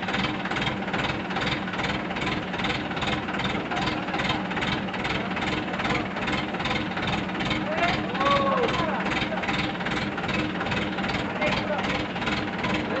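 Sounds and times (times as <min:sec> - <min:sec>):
engine running with pulsing hum: 0:00.0 - 0:13.0.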